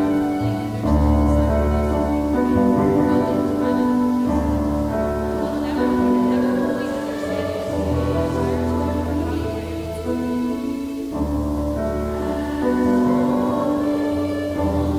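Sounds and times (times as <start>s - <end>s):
choir singing: 0.0s - 14.9s
orchestra playing held chords: 0.0s - 14.9s.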